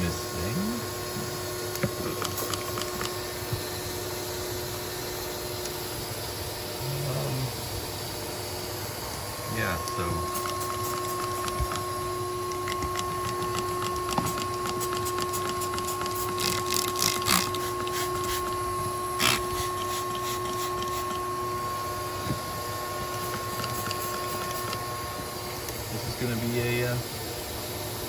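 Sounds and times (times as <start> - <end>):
shop vac motor whining: 0.0 - 28.0.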